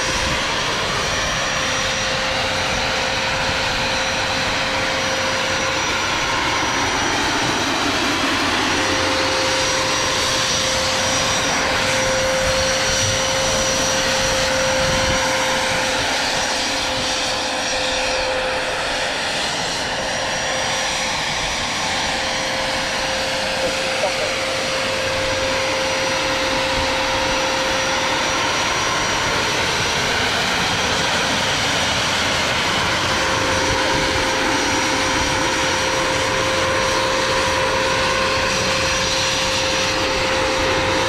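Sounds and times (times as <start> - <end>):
gas turbine whine and rush: 0.0 - 41.0.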